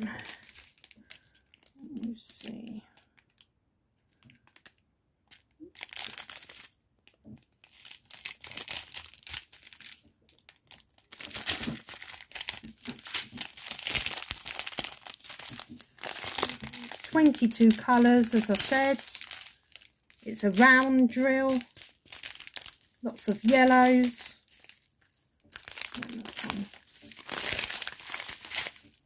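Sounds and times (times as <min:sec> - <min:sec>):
plastic bags crinkling: 0:00.0 - 0:03.5, 0:04.1 - 0:29.0.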